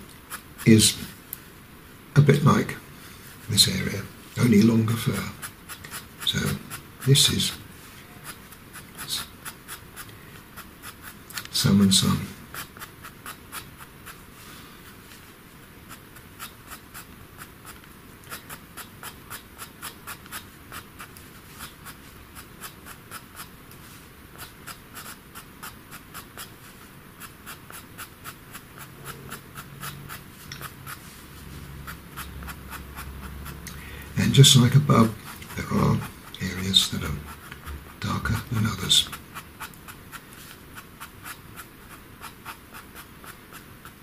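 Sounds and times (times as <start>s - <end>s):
pencil scratching on paper: 0.3s - 1.2s, 3.5s - 15.2s, 15.8s - 44.0s.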